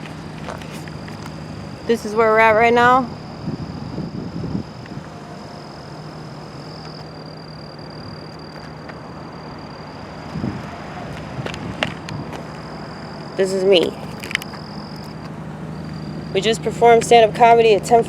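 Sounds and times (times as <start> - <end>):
high steady whine: 0.0 - 18.0
low mechanical hum: 0.0 - 18.0.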